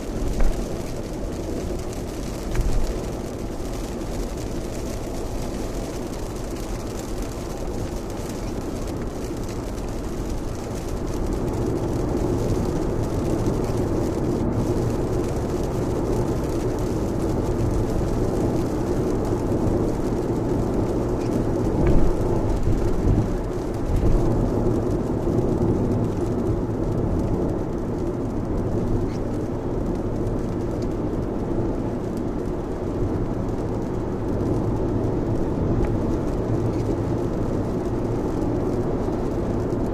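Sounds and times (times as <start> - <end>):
heavy rain on car: 0.0 - 39.9
road and tyre noise: 0.0 - 39.9.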